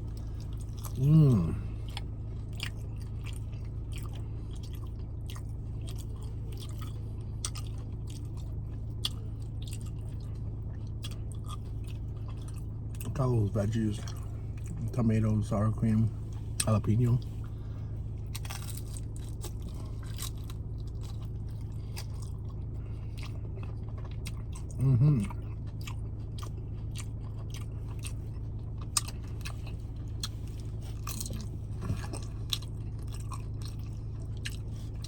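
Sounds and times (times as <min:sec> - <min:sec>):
chewing crunchy chips: 0:00.0 - 0:35.0
low hum: 0:00.0 - 0:35.0.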